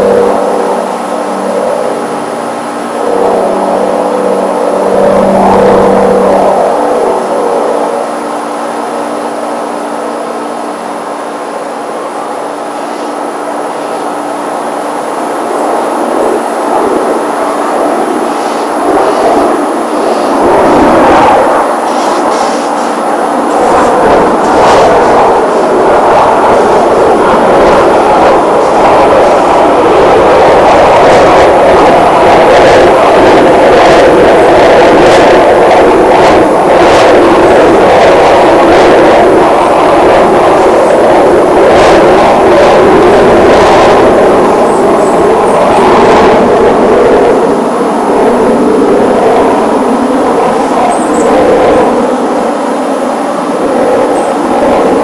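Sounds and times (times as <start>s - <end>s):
aircraft engine roar: 0.0s - 55.0s.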